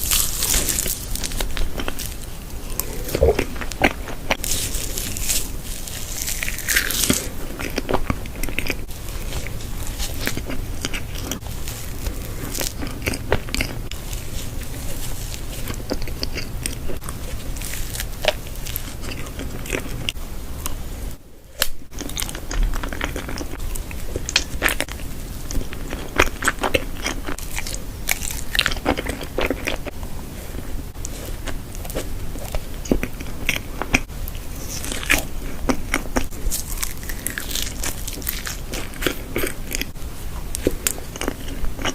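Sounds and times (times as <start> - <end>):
crunchy bites and chewing: 0.0 - 20.8, 21.5 - 41.9.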